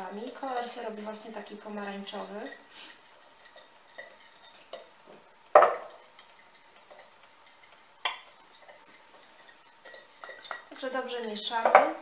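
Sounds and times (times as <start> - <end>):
spoon stirring in glass bowl: 0.0 - 11.9.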